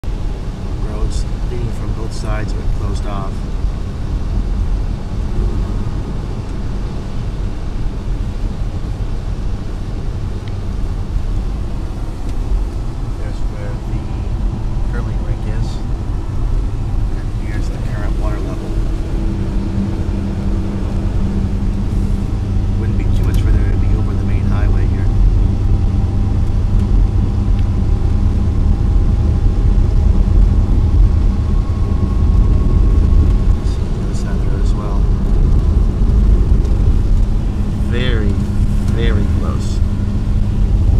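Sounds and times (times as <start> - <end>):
car engine and tyre rumble: 0.0 - 40.9
faint steady whine: 0.0 - 40.9.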